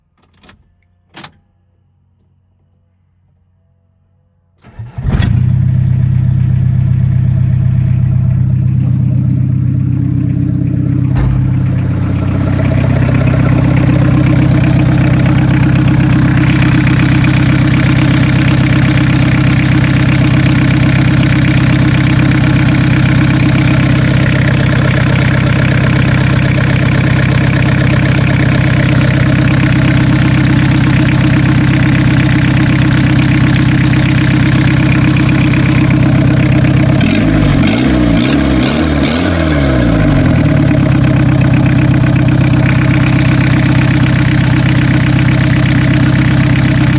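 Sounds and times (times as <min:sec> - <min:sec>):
diesel engine starting and idling: 0:04.6 - 0:46.9.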